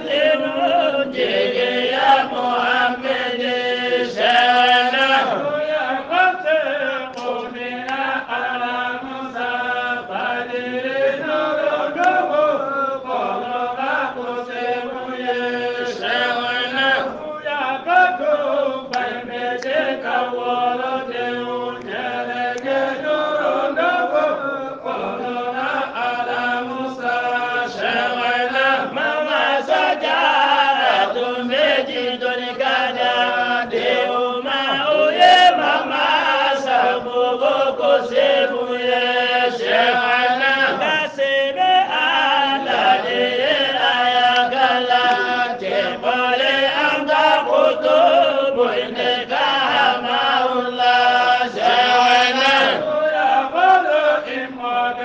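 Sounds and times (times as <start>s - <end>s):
voices chanting devotional song: 0.0s - 55.0s.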